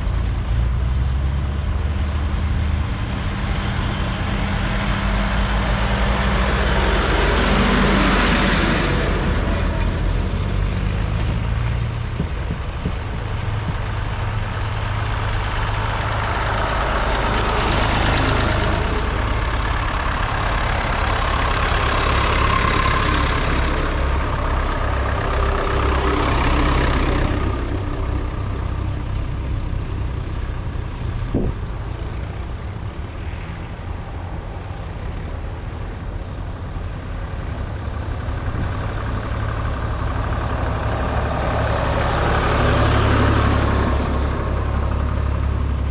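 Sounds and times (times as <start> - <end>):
tractor engines rumbling: 0.0 - 45.9.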